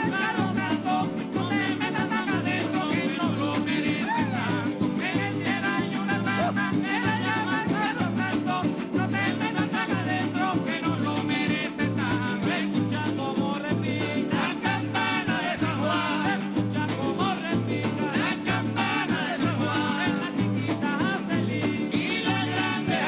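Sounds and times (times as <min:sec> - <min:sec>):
cuatro and guitar strumming: 0:00.0 - 0:23.0.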